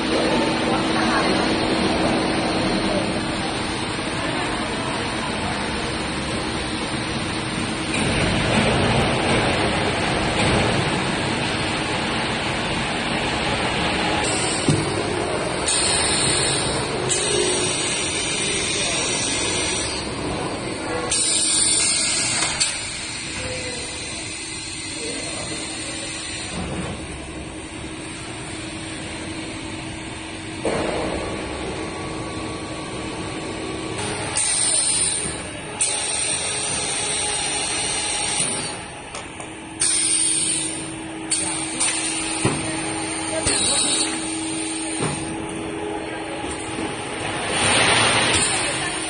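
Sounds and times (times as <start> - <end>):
machine hum: 0.0 - 49.0.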